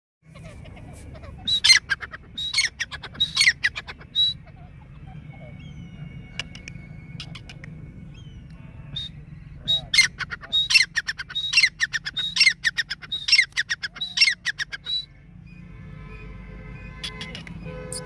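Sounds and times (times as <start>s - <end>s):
francolin harsh ringing calls: 1.2s - 18.0s.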